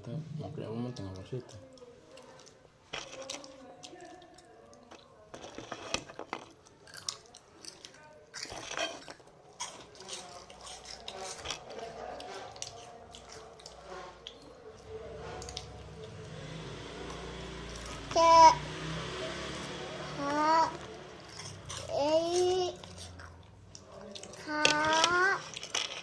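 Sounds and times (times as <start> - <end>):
faint background voices: 0.0 - 26.0
chewing: 0.9 - 18.0, 20.7 - 26.0.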